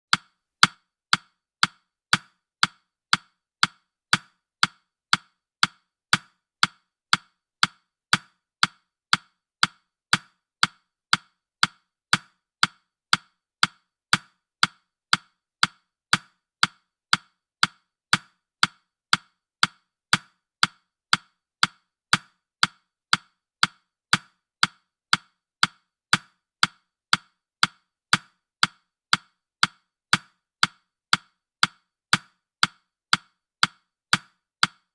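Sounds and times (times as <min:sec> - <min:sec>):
timer ticking: 0:00.0 - 0:34.9.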